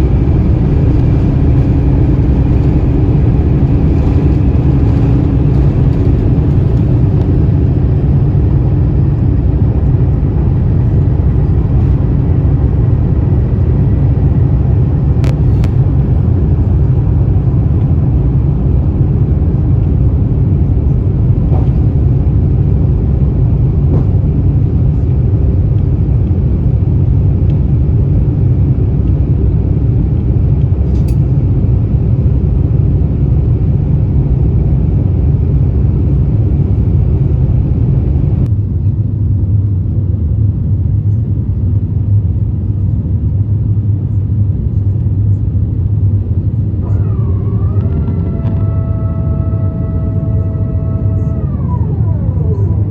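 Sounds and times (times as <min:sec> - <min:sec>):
jet airliner cabin rumble: 0:00.0 - 0:52.9.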